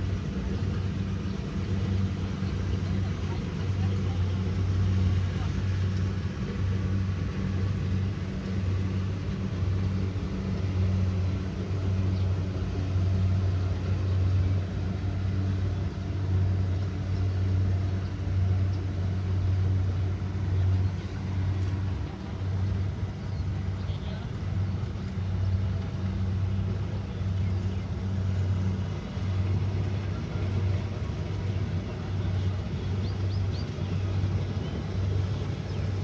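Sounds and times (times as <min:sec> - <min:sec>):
combine harvester diesel engine: 0:00.0 - 0:36.0.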